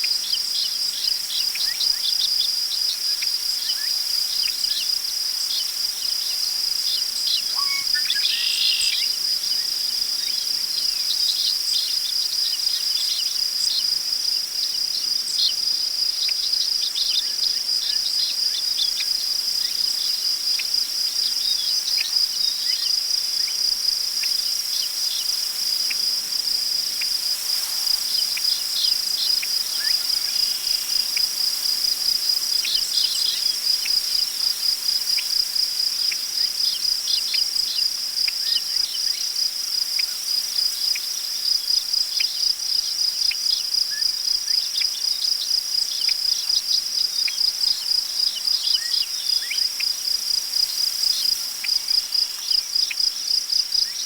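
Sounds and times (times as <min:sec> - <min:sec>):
crickets trilling: 0:00.2 - 0:54.0.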